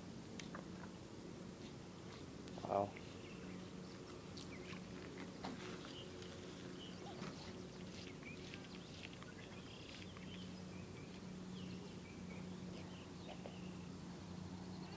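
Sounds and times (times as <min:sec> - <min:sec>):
low steady hum: 0:00.0 - 0:14.9
birds chirping: 0:02.6 - 0:14.9.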